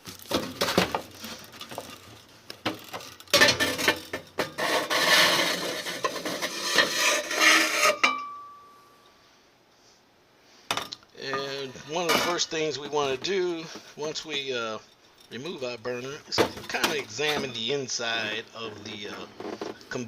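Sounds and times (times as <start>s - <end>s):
metal scraping and clinking: 0.1s - 8.7s, 11.3s - 20.0s.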